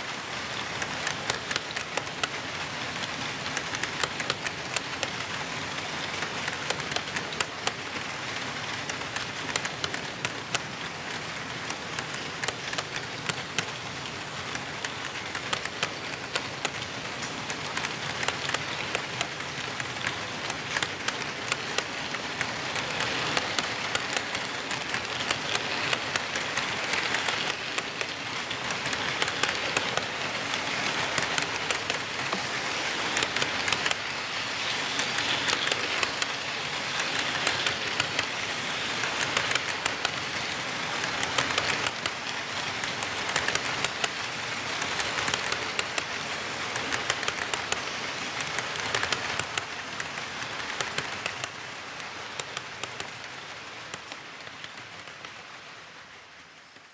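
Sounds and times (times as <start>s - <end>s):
model train rolling on track: 0.0s - 56.9s.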